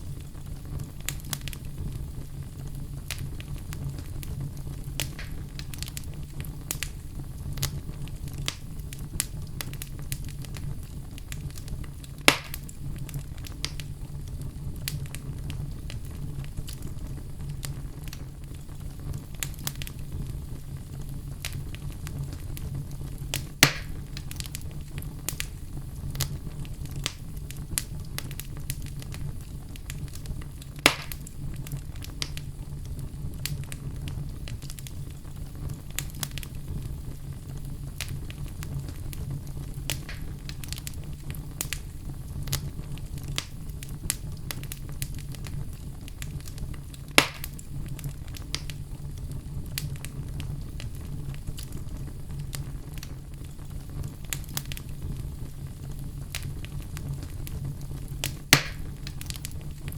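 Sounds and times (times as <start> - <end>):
fire low rumble: 0.0 - 59.9
sharp fire pops: 0.0 - 59.9
wood fire crackling: 0.0 - 59.9.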